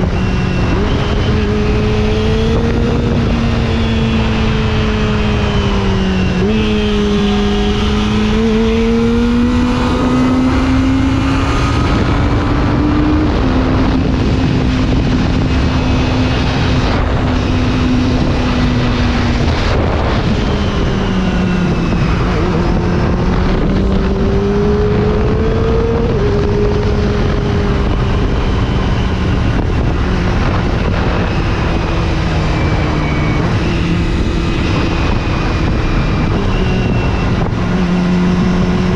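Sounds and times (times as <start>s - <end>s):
motorcycle engine running: 0.0s - 38.9s
wind rush on microphone: 0.0s - 38.9s.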